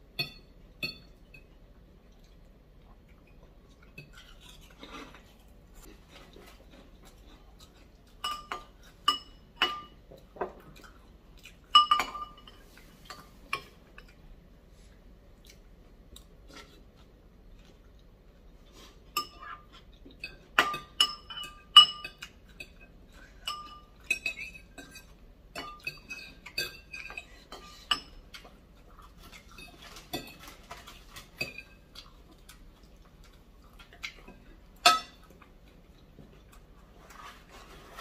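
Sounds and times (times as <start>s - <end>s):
cutlery clinking against a bowl: 0.1s - 1.6s, 3.3s - 14.2s, 18.8s - 38.0s.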